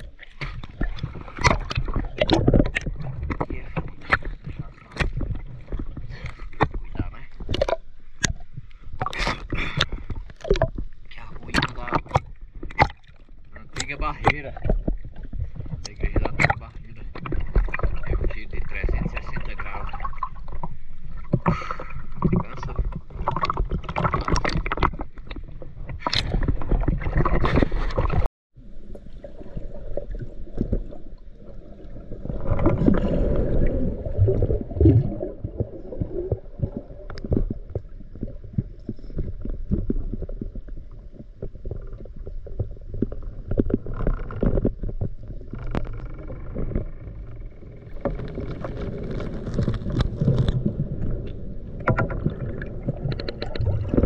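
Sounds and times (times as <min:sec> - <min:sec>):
muffled underwater rumble: 0:00.0 - 0:54.0
water sloshing and bubbling: 0:00.0 - 0:54.0.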